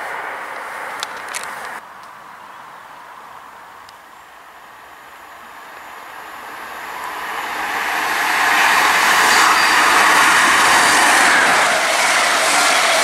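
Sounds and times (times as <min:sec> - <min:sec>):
diesel train passing at speed: 0:00.0 - 0:01.8, 0:03.0 - 0:13.0.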